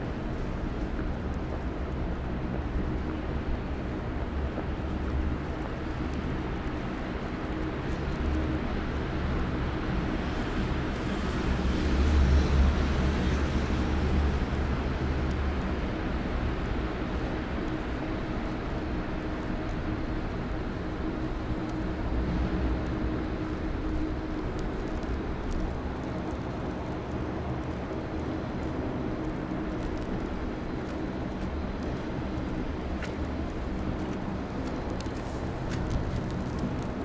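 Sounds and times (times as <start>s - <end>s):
traffic engine hum: 0.0s - 37.0s.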